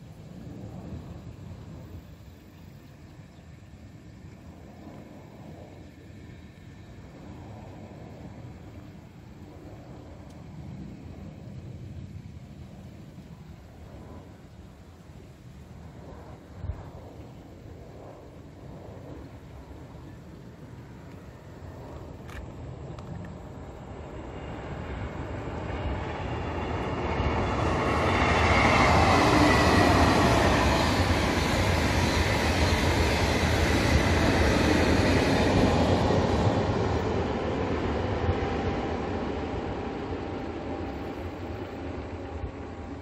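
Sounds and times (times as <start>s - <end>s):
high-speed train rushing past: 0.0s - 43.0s.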